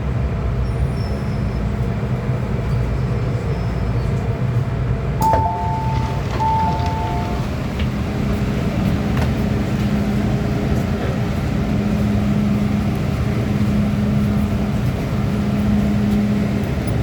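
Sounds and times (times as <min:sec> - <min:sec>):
train interior hum and rumble: 0:00.0 - 0:17.0.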